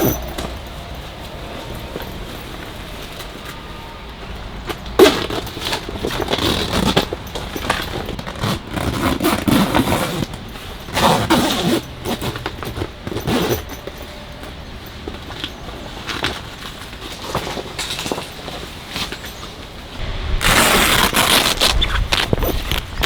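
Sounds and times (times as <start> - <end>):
things scraping and rustling: 0.0 - 23.0.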